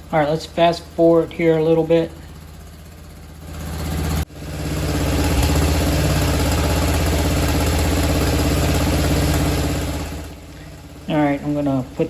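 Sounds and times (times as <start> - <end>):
mower engine idling: 0.0 - 12.0.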